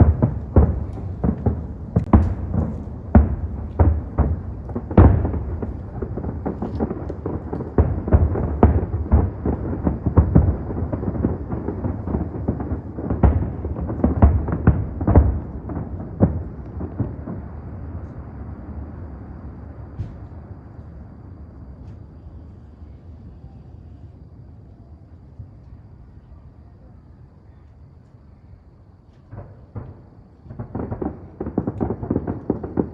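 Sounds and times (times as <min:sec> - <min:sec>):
fireworks booming: 0:00.0 - 0:24.6, 0:29.0 - 0:32.9.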